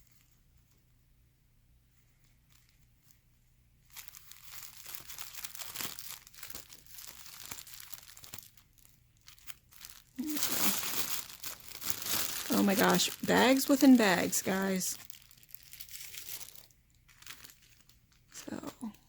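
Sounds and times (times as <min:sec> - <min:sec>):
plastic bag crinkling: 0:01.9 - 0:19.0.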